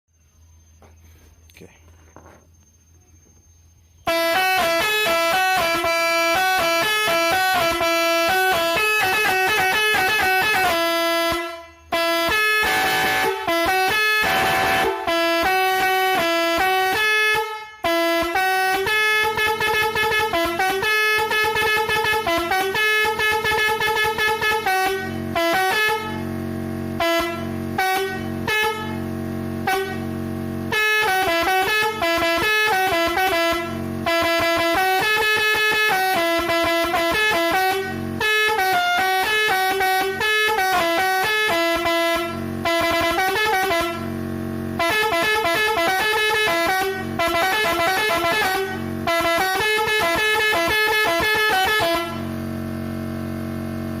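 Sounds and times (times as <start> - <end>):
deep steady horn tone: 3.9 - 54.0
multi-tone horn melody: 4.0 - 54.0.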